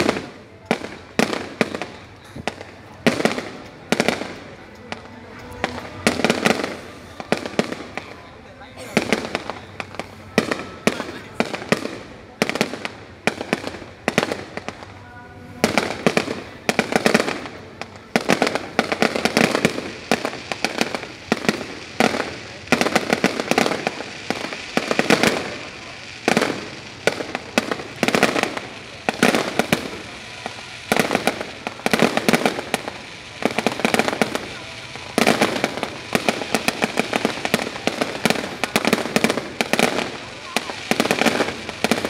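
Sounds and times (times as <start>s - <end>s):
fireworks bursting with crackle: 0.0s - 42.0s.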